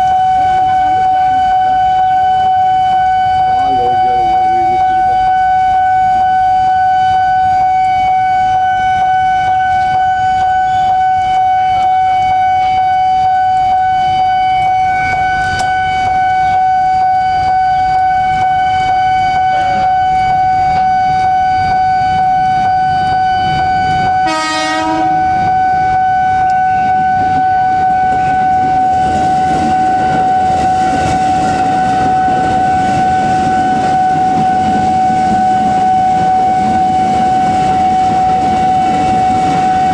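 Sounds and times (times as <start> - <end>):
level crossing warning tone: 0.0 - 39.9
train rumble: 0.0 - 39.9.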